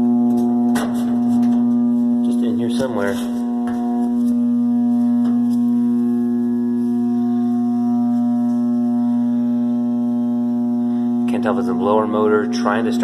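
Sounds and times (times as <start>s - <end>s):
furnace electrical buzz: 0.0s - 13.0s.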